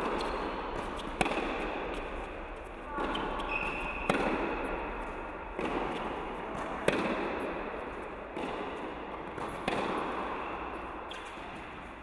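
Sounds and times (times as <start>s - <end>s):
tennis ball hit by rackets: 0.0s - 2.3s, 3.0s - 11.7s.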